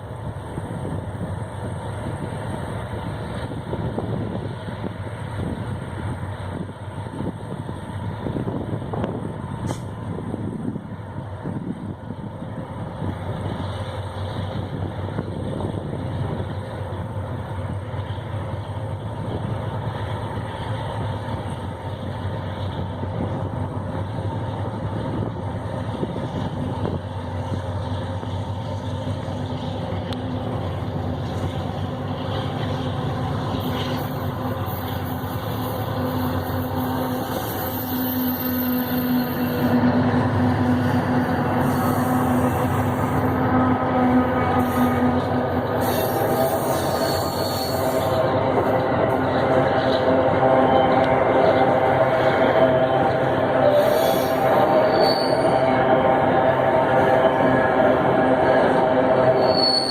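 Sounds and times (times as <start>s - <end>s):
diesel locomotive rumble: 0.0s - 59.9s
train wheels rolling: 0.0s - 59.9s.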